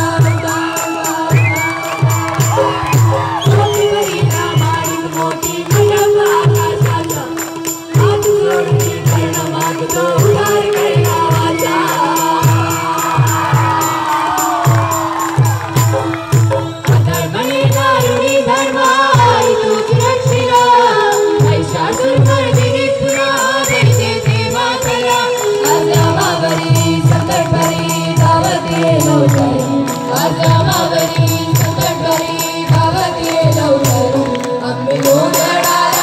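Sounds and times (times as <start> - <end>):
group of voices singing: 0.0 - 36.0
high jingling percussion: 0.0 - 36.0.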